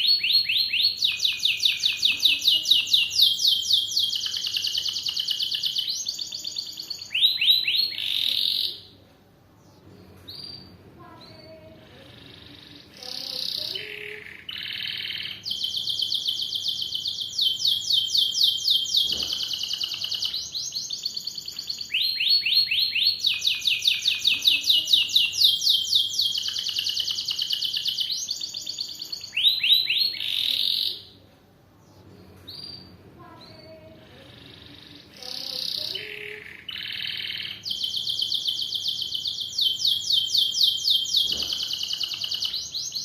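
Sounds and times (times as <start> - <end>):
canary singing trills: 0.0 - 9.0, 9.6 - 31.2, 31.8 - 43.0.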